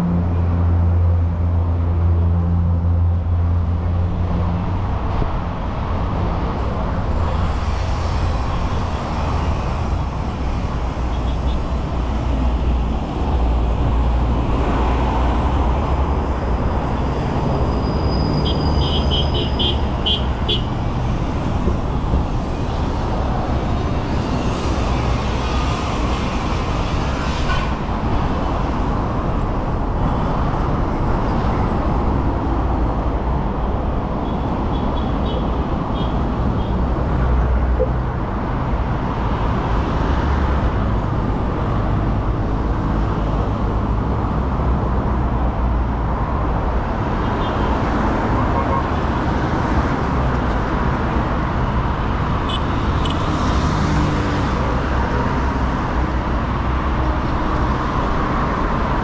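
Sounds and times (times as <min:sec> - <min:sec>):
city road traffic: 0:00.0 - 0:59.0.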